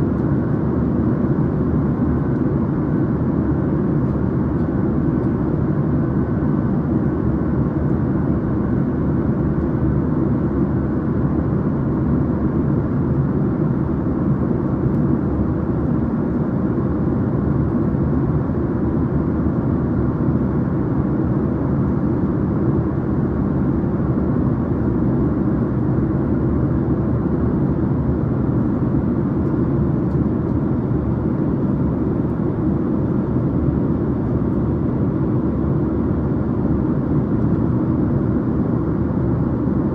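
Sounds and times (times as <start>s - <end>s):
airplane low rumble: 0.0s - 39.9s.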